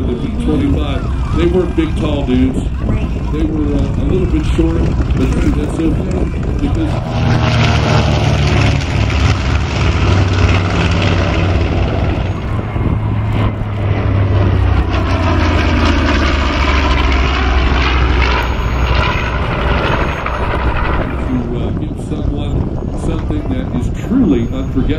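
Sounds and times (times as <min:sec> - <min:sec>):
propeller plane flying past: 0:00.0 - 0:24.9.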